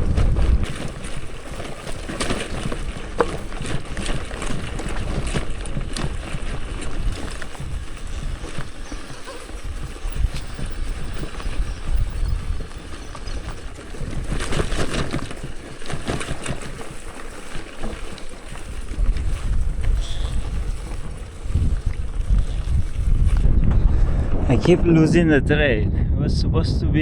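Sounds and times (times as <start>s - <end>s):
crackling and rattling: 0.0s - 25.4s
wind buffeting microphone: 0.0s - 27.0s.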